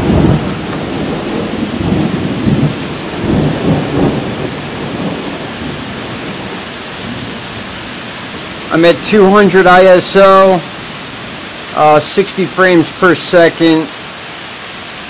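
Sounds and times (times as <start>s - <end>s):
thunder rolling: 0.0s - 12.1s
heavy rain hissing: 0.0s - 15.0s.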